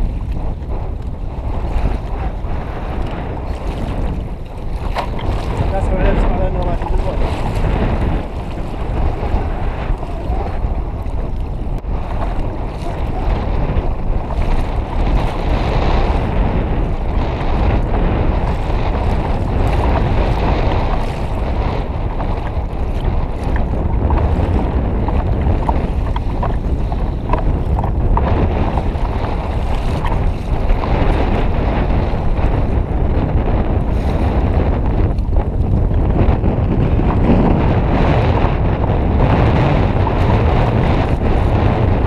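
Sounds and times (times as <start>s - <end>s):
water slapping against hull: 0.0s - 42.0s
wind buffeting microphone: 0.0s - 42.0s.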